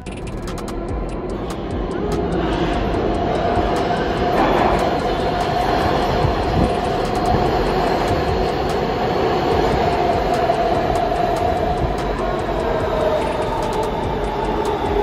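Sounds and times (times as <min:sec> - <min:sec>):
steady whine: 0:00.0 - 0:15.0
subway train rumbling on rails: 0:00.0 - 0:15.0.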